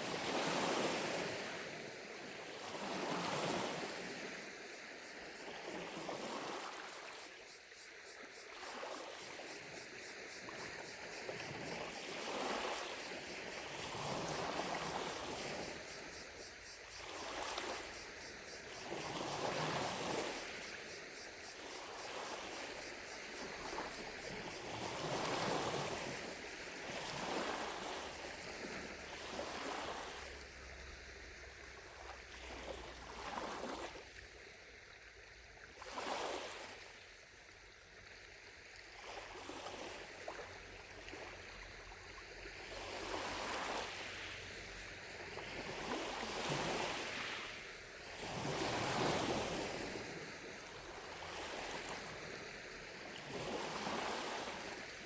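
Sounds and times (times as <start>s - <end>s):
lake waves lapping on shore: 0.0s - 55.0s.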